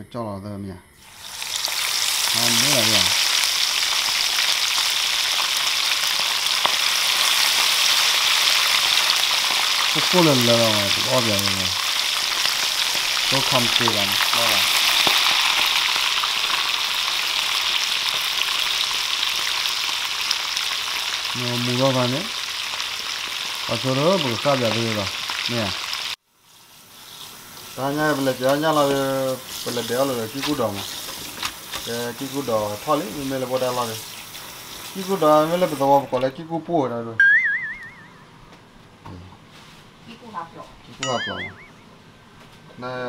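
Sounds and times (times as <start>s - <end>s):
fish deep-frying in oil: 1.0s - 36.3s.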